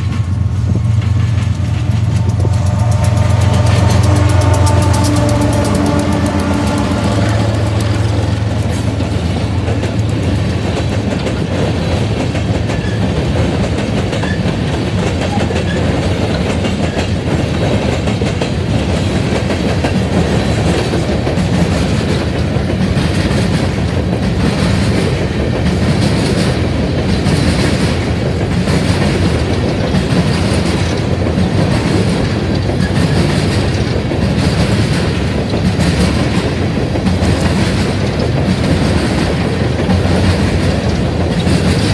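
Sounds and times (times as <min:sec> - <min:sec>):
diesel locomotive engine: 0:00.0 - 0:41.9
train wheels clacking over rail joints: 0:00.0 - 0:41.9.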